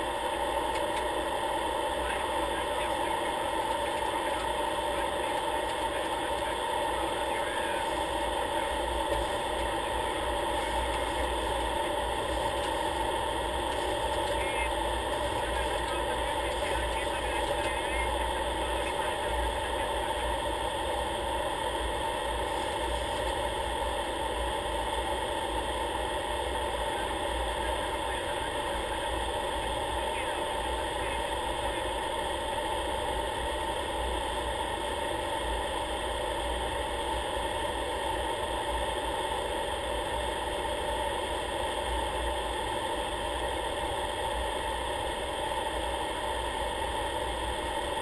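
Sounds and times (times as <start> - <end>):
aircraft engine drone: 0.0 - 48.0.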